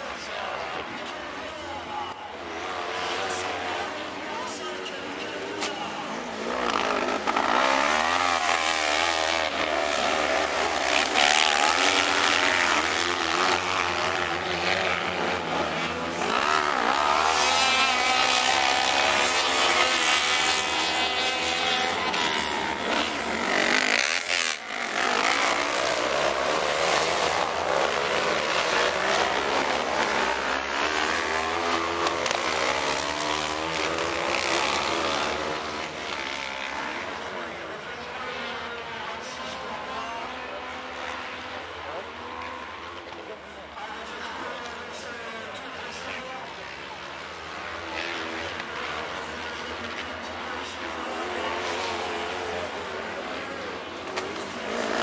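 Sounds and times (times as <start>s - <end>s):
buggy engines revving: 0.0s - 55.0s.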